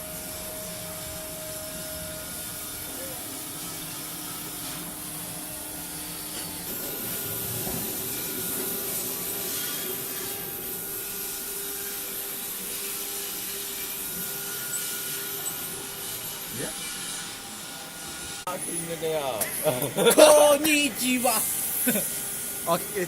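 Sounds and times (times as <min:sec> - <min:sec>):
cnc router machining wood: 0:00.0 - 0:23.0.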